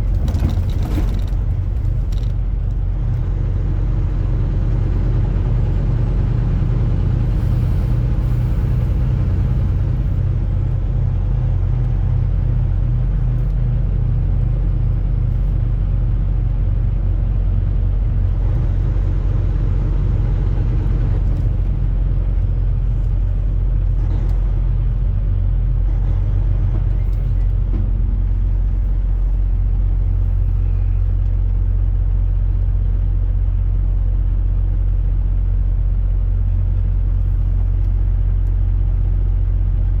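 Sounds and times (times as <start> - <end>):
truck engine and road rumble: 0.0 - 40.0.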